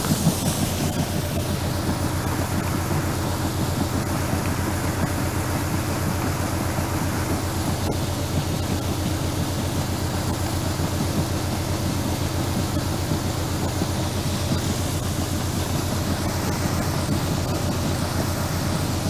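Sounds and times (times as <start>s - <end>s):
harvest machinery humming: 0.0s - 19.0s.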